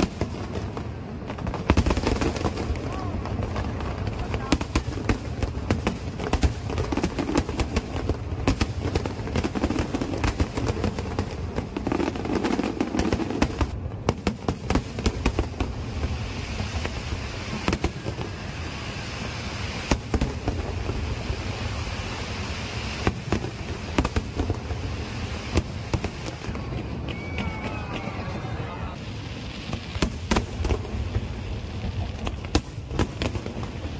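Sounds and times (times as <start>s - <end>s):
crackling hiss: 0.0s - 33.9s
fireworks bangs and crackles: 0.0s - 33.9s.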